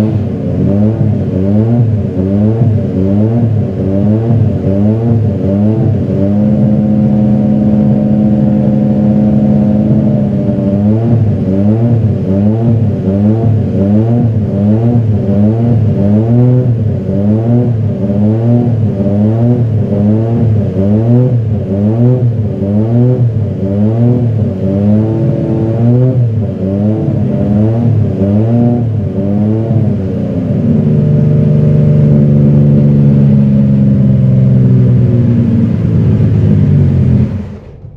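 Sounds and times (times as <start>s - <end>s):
racing car engine revving: 0.0s - 37.9s.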